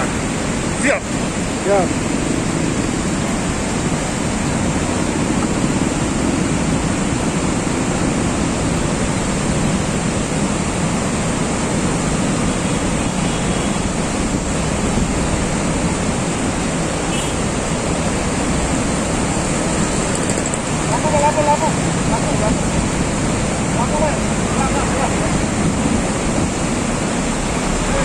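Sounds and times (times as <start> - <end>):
mudflow rushing down river: 0.0 - 28.0.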